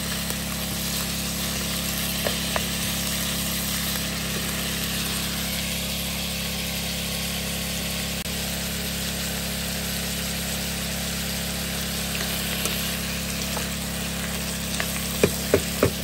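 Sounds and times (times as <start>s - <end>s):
low mechanical hum: 0.0s - 16.0s
meat sizzling in a skillet: 0.0s - 16.0s.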